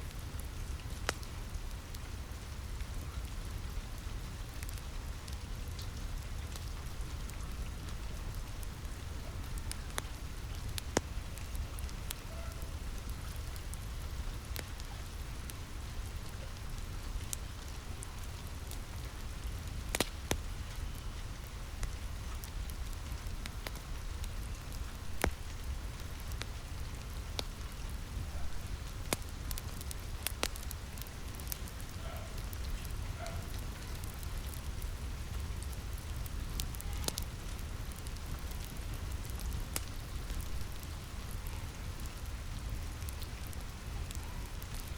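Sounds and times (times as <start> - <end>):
steady rainfall: 0.0 - 44.9
wood fire crackling and popping: 0.0 - 44.9.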